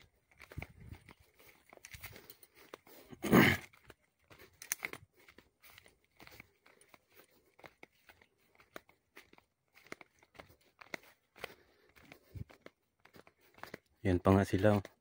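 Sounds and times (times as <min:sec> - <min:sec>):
footsteps crunching through undergrowth: 0:00.0 - 0:15.0.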